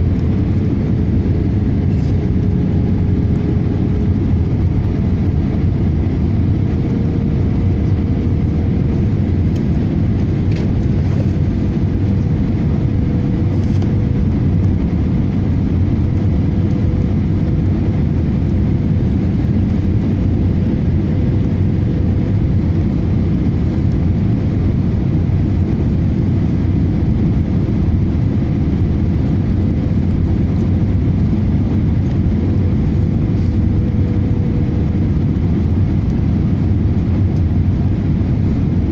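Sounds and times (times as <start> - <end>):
airliner engines and airflow rumble: 0.0 - 38.9
faint steady whine: 0.0 - 38.9.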